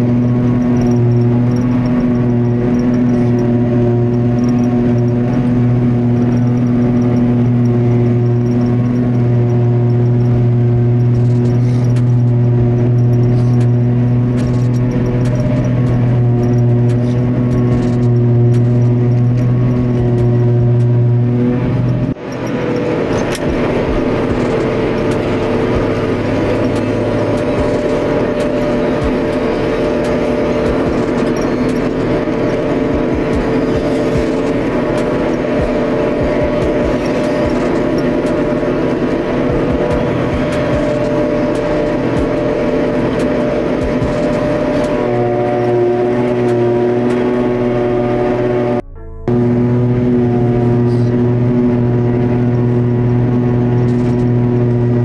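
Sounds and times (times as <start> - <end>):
harvester engine and machinery drone: 0.0 - 55.0.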